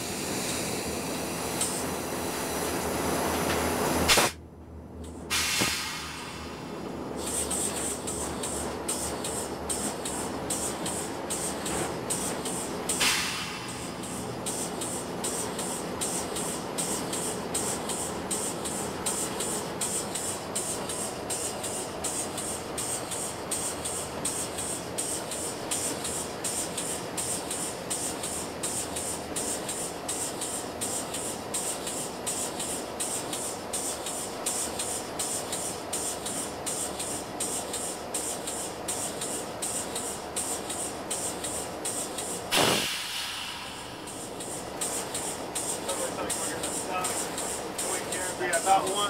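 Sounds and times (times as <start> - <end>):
locomotive cab running noise: 0.0 - 49.0
pulsing faint hiss: 7.2 - 49.0.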